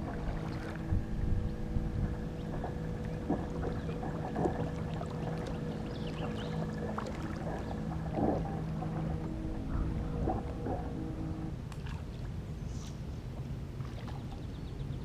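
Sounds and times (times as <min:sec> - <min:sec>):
water sloshing against hull: 0:00.0 - 0:15.0.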